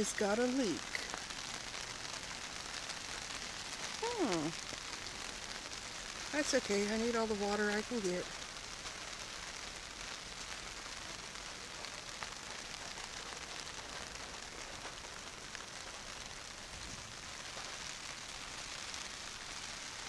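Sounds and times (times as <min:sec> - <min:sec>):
rain pattering on plastic cover: 0:00.0 - 0:20.0.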